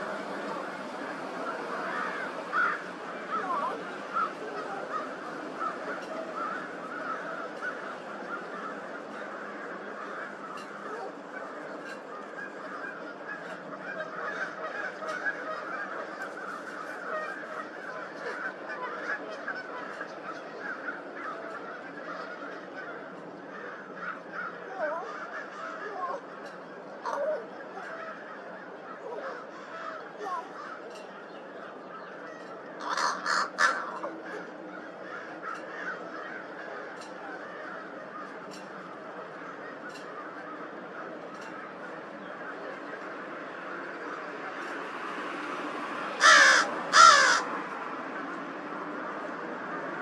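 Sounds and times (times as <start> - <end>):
geese honking: 0.0 - 47.6
crow calling harshly: 1.0 - 43.2, 46.2 - 47.6.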